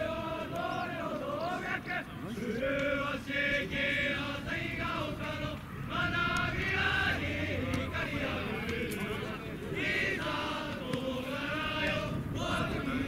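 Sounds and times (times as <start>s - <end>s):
young men singing in unison: 0.0s - 13.0s.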